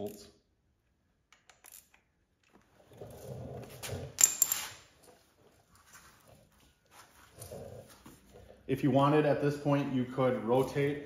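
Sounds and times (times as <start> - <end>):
rustling and handling of tools: 0.0 - 8.7, 9.7 - 11.0.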